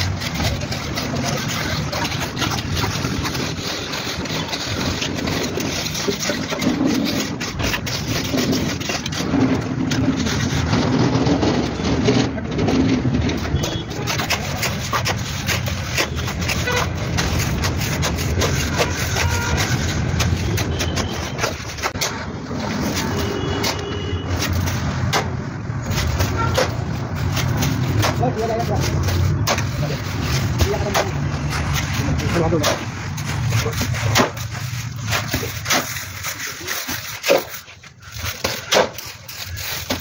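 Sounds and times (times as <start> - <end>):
tools scraping wet concrete: 0.0 - 40.0.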